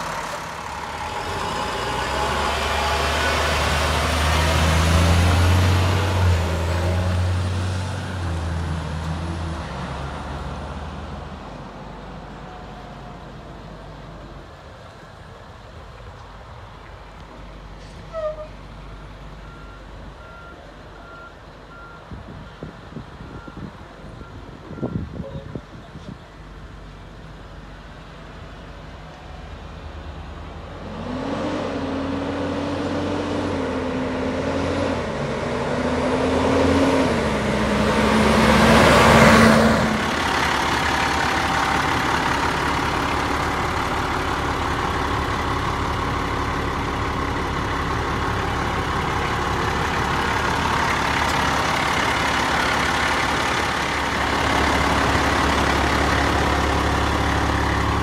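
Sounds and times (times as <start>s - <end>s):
diesel truck engine accelerating: 0.0s - 58.0s.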